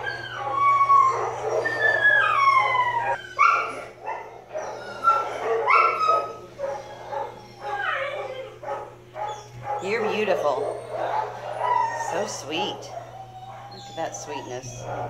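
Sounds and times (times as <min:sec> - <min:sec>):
dog whining: 0:00.0 - 0:15.0
dog yelping: 0:00.0 - 0:15.0.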